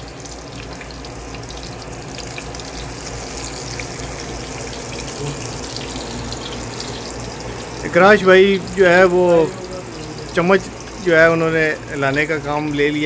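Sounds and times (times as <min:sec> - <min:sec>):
kebabs sizzling in oil: 0:00.0 - 0:13.0.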